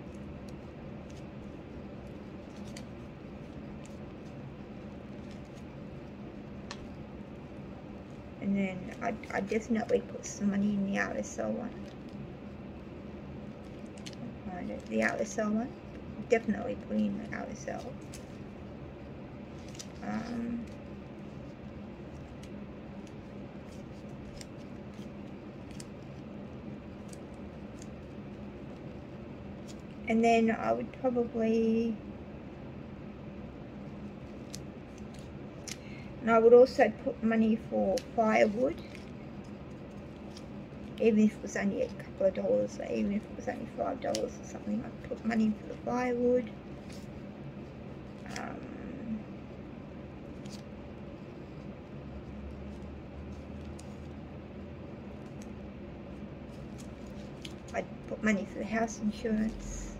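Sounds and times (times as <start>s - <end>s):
plastic pages crinkling: 0.0s - 12.6s, 13.3s - 30.0s, 33.8s - 49.2s, 56.4s - 59.9s
steady background hum: 0.0s - 59.9s.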